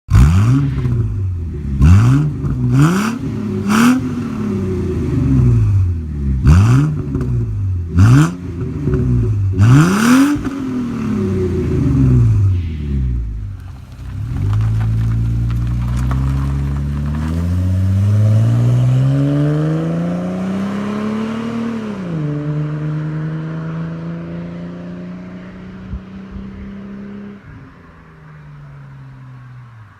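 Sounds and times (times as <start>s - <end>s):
car exhaust accelerating: 0.1s - 29.9s.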